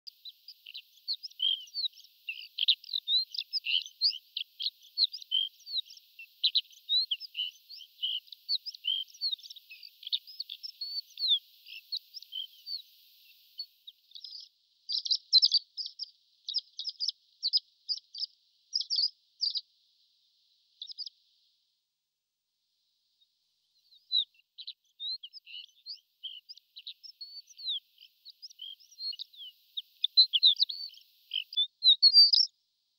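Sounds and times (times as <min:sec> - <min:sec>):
bird singing high chirps: 0:00.0 - 0:19.7, 0:20.8 - 0:21.1, 0:23.8 - 0:32.6.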